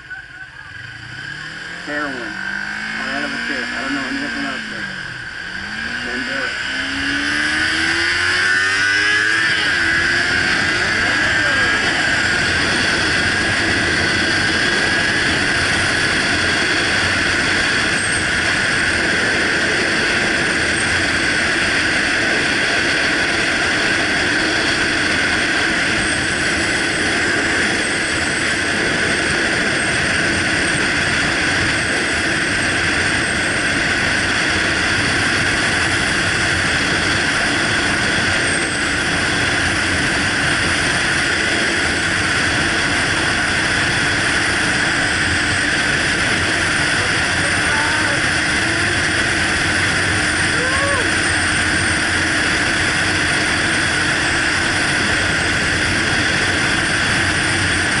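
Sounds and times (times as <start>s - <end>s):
motorcycle engine: 0.0s - 58.0s
wind on microphone: 2.4s - 58.0s.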